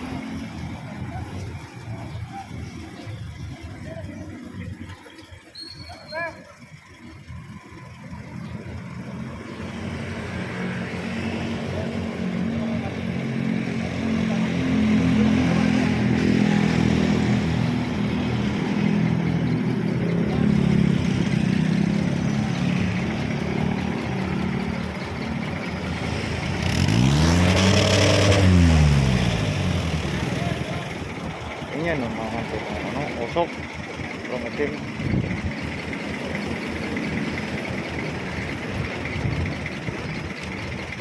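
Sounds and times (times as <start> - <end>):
diesel engine running and revving: 0.0 - 5.7, 6.5 - 41.0.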